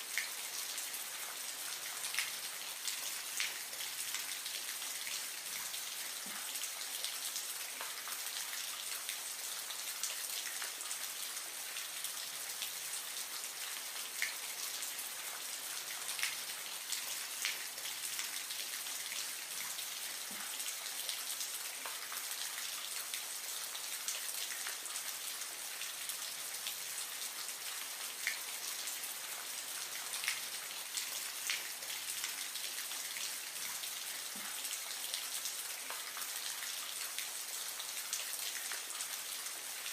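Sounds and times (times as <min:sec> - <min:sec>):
small drips and ticks: 0:00.1 - 0:39.9.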